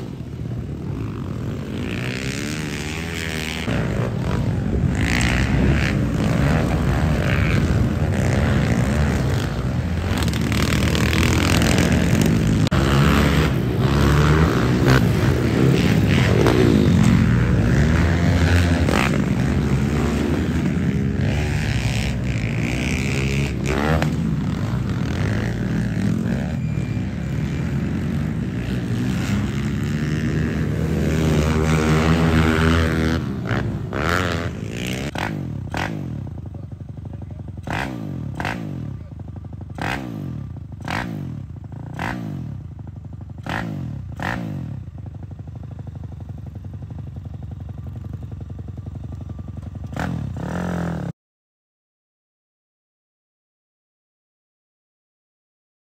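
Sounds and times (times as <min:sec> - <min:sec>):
pit bike engines revving: 0:00.0 - 0:51.1
pit bike idling with throttle blips: 0:00.0 - 0:51.1.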